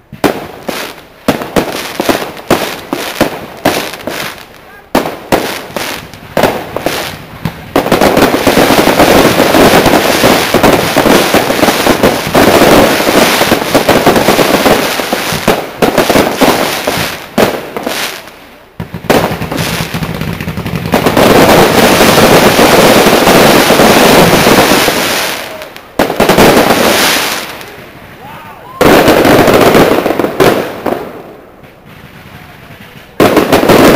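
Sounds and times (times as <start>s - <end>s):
fireworks bangs and crackle: 0.0s - 33.9s.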